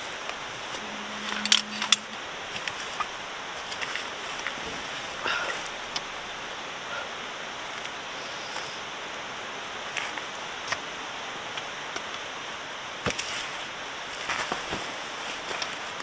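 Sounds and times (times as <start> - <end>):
river flowing over stones: 0.0 - 16.0.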